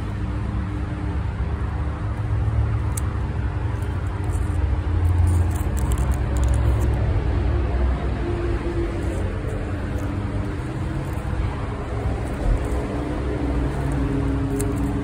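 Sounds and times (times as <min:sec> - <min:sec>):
crackling of lemongrass stalks: 0:00.0 - 0:07.4, 0:08.5 - 0:15.0
steady low rumble: 0:00.0 - 0:15.0.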